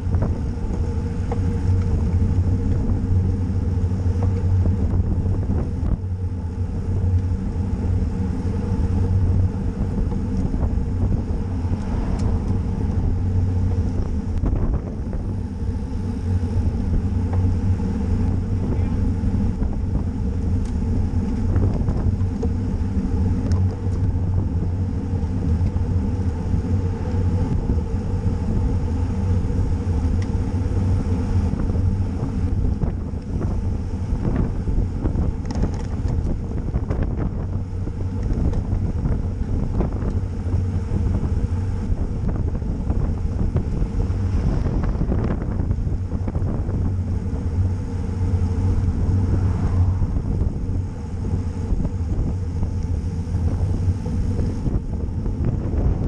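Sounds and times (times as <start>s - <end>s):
bike tyres rumbling on pavement: 0.0s - 56.0s
wind buffeting microphone: 0.0s - 56.0s.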